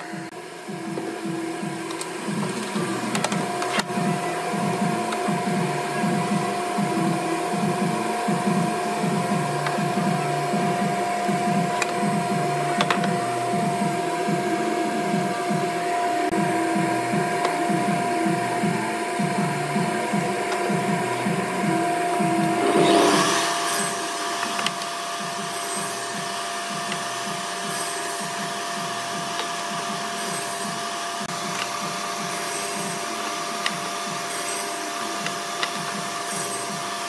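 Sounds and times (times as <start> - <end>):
table saw motor whine: 0.0 - 37.0.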